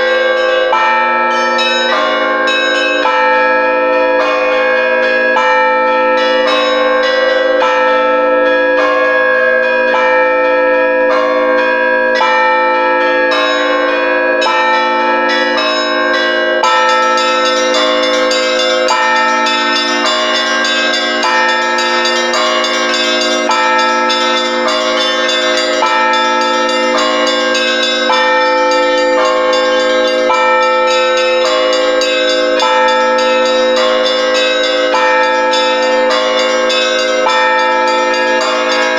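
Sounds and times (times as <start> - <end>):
hum of large bells: 0.0 - 38.9
small church bells chiming: 0.0 - 38.9.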